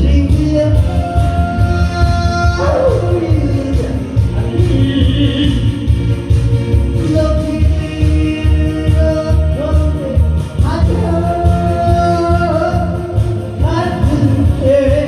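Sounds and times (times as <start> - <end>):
person singing: 0.0 - 6.2, 6.8 - 15.0
pulsing bass beat: 0.0 - 15.0.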